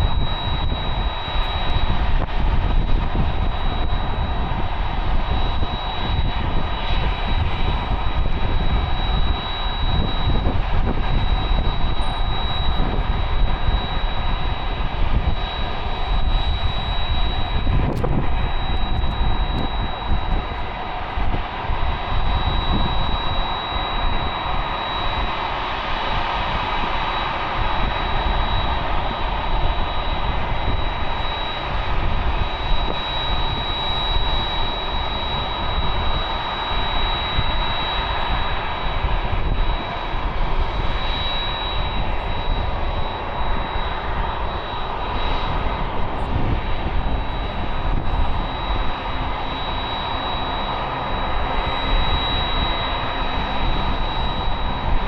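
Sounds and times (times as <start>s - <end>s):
high-pitched engine whine: 0.0s - 55.0s
jet engines roaring: 0.0s - 55.0s.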